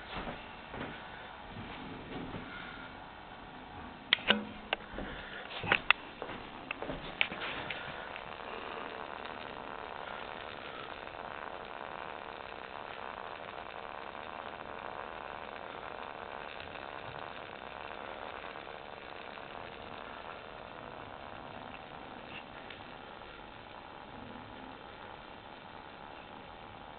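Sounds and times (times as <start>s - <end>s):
steady background hiss: 0.0s - 26.9s.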